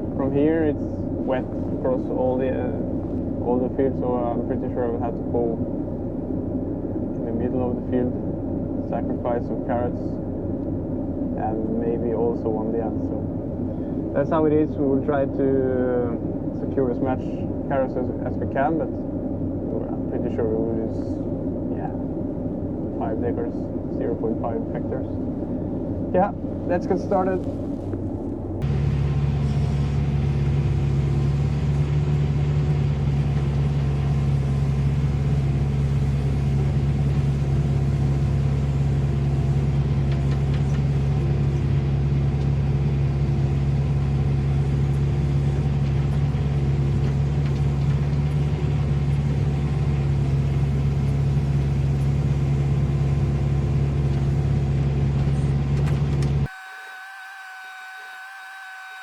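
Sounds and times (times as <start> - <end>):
diesel excavator engine droning: 0.0 - 59.0
quiet steady whine: 0.0 - 59.0.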